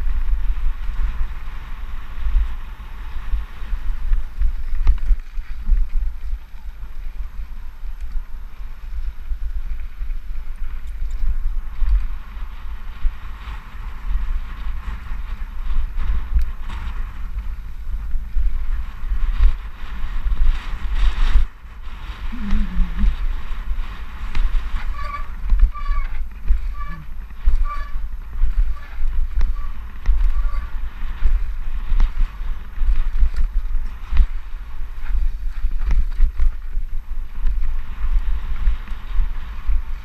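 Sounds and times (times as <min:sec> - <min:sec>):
tyres rolling on dirt trail: 0:00.0 - 0:40.0
wind buffeting microphone: 0:00.0 - 0:40.0.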